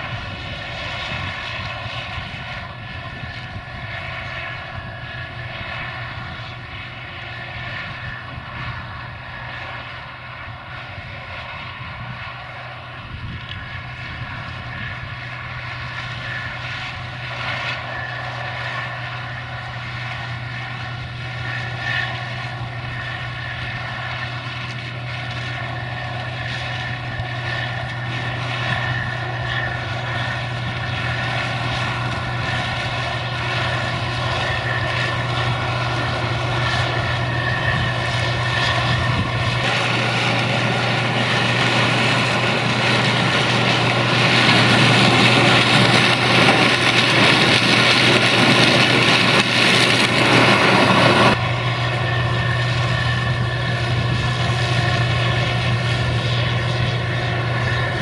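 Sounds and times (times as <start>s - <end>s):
combine harvester running: 0.0s - 58.0s
drone propellers whining: 0.0s - 58.0s.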